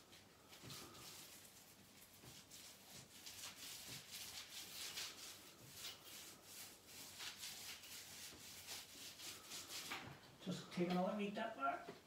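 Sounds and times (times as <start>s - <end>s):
paint roller swishing on wall: 0.0s - 11.1s.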